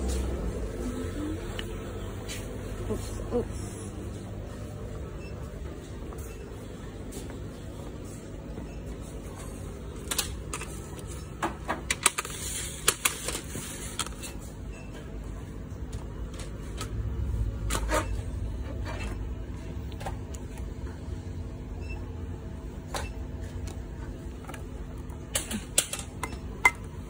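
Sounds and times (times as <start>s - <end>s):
low steady store hum: 0.0s - 27.0s.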